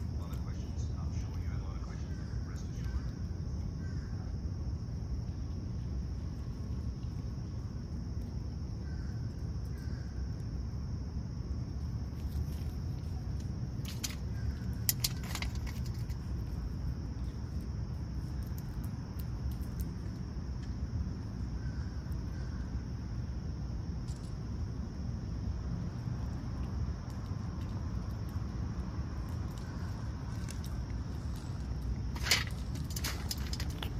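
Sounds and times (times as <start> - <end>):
high-pitched insect chorus: 0.0 - 33.9
low outdoor rumble: 0.0 - 33.9.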